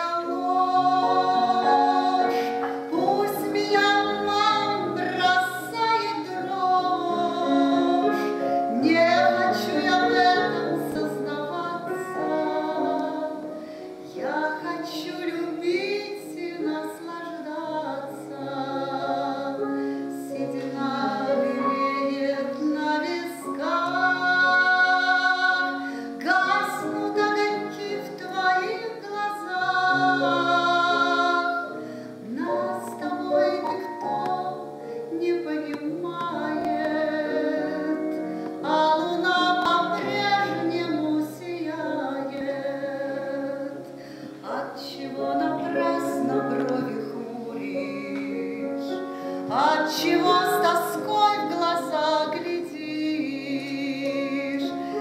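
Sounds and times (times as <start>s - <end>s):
low piano notes: 0.0s - 55.0s
woman singing slow song: 0.0s - 55.0s.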